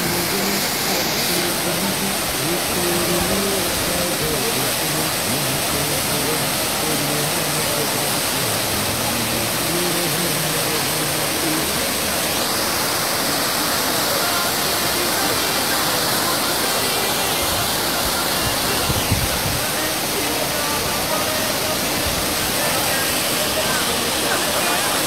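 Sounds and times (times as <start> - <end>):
waterfall roaring onto rocks: 0.0 - 25.0.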